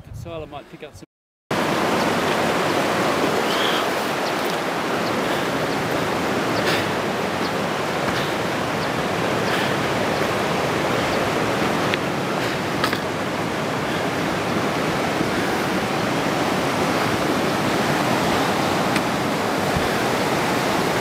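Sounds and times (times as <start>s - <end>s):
water flowing: 1.5s - 21.0s.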